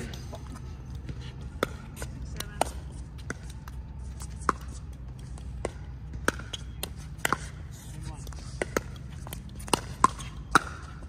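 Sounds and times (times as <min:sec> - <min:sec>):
ball bouncing on hard court: 0:01.0 - 0:07.6, 0:08.2 - 0:11.0.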